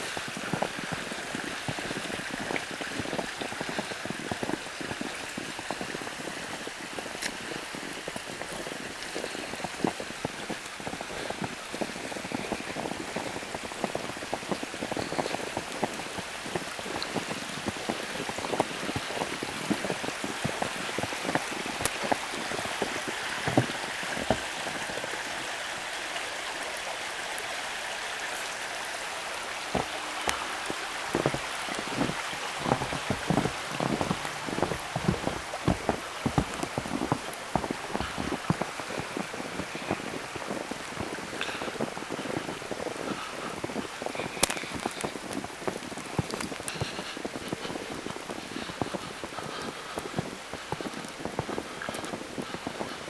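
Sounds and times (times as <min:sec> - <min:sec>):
snow pattering on forest: 0:00.0 - 0:53.0.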